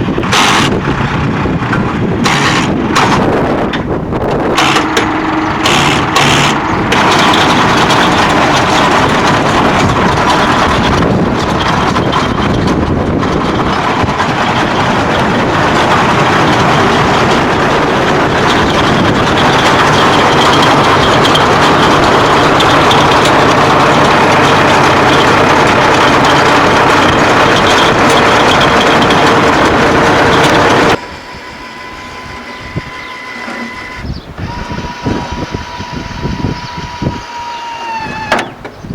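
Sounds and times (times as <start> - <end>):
steady whine: 0.0 - 38.7
round baler running: 0.0 - 38.9.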